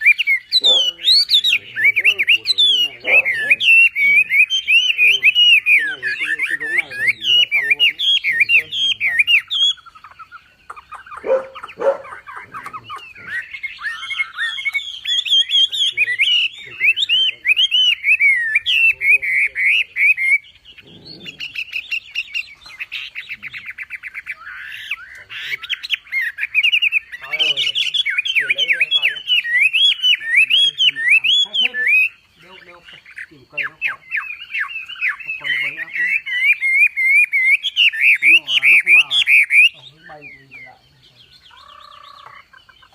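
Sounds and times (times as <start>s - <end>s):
harsh chattering bird calls: 0.0s - 42.9s
songbird twittering and whistling: 0.0s - 42.9s.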